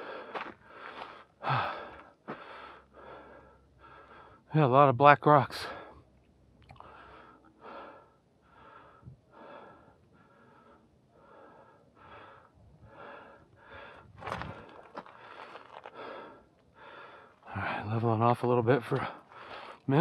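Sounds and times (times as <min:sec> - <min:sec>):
man breathing hard: 0:00.0 - 0:04.5, 0:06.8 - 0:17.9, 0:19.0 - 0:19.9.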